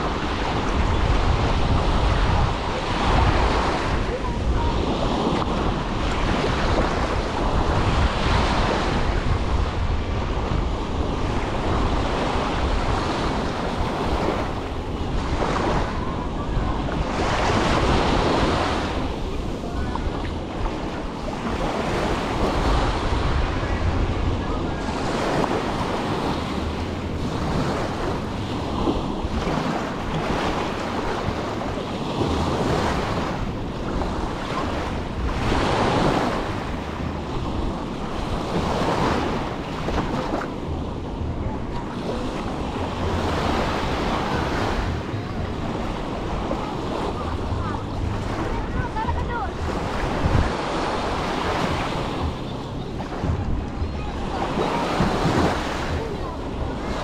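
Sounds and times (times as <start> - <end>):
small waves washing up shore: 0.0 - 57.0
wind buffeting microphone: 0.0 - 57.0.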